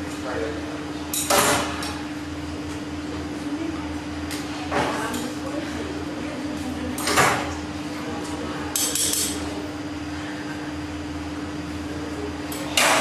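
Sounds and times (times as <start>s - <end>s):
furnace humming: 0.0s - 13.0s.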